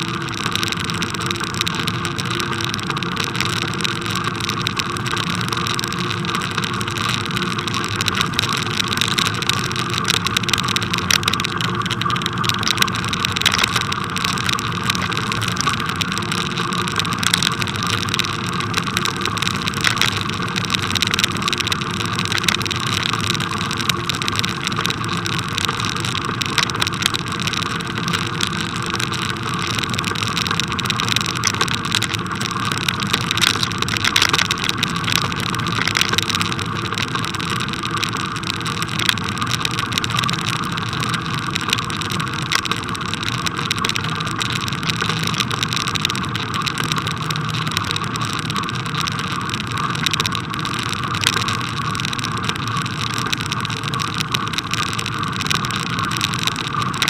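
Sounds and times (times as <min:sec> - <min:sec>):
bicycle tyres on snow: 0:00.0 - 0:57.0.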